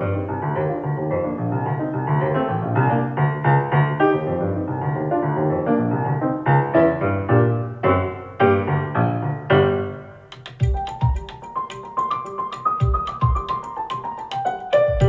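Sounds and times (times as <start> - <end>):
keyboard music with bass line: 0.0 - 15.0.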